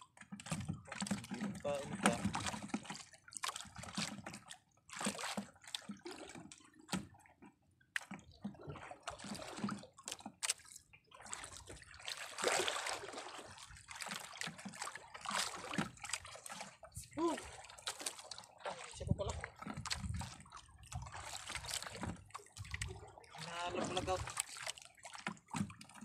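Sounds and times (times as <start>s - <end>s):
water splashing against boat hull: 0.0s - 26.0s.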